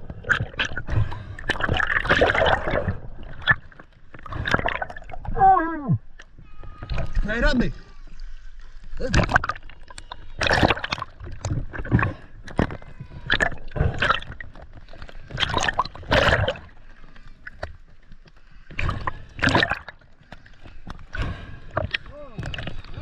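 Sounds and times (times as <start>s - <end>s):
water splashing and gurgling: 0.0s - 23.0s.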